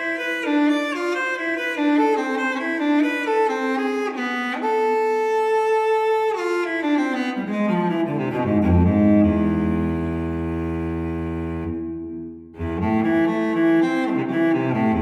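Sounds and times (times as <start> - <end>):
bowed strings melody: 0.0 - 15.0.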